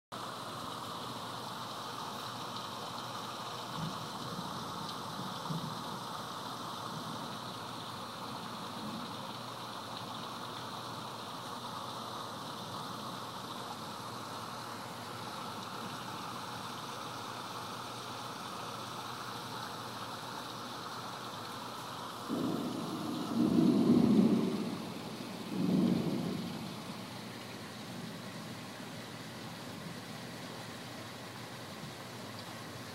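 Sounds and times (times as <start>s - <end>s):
heavy rain pouring: 0.2s - 32.9s.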